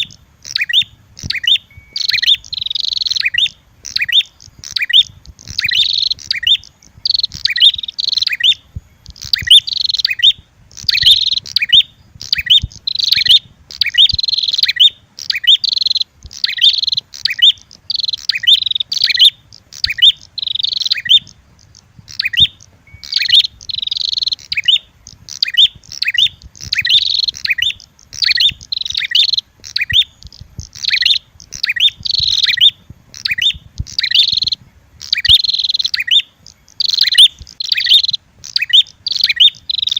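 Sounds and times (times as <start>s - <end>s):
high rapid bird chirping: 0.0s - 39.9s.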